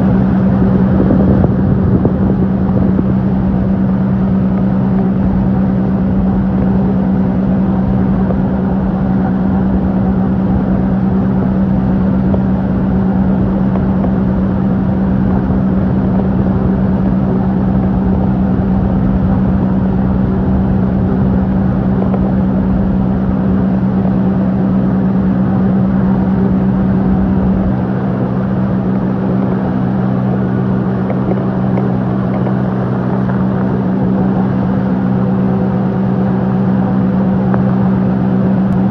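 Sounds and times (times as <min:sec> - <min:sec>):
motorboat engine drone: 0:00.0 - 0:38.9
rushing wind: 0:00.0 - 0:38.9.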